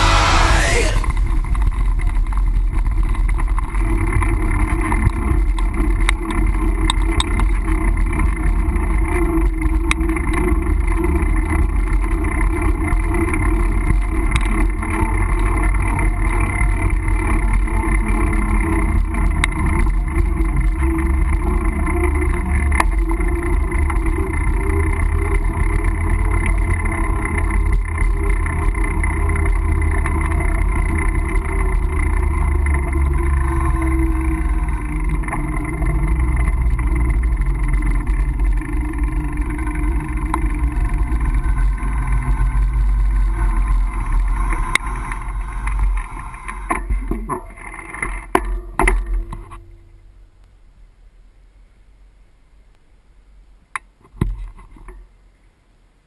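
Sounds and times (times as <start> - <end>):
wind rumble: 0.0 - 47.9
bike riding noise: 0.0 - 50.4.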